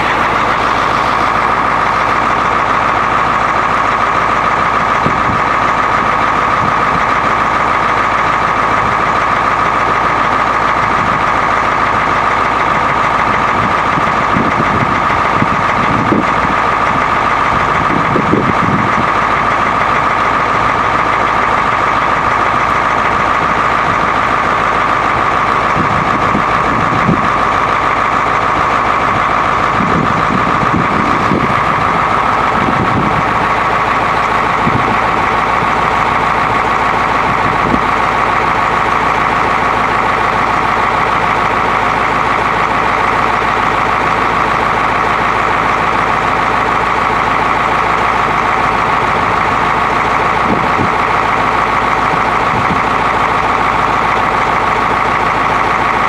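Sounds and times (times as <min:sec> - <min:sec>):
diesel engine running: 0:00.0 - 0:56.0
steady high whine: 0:00.0 - 0:56.0.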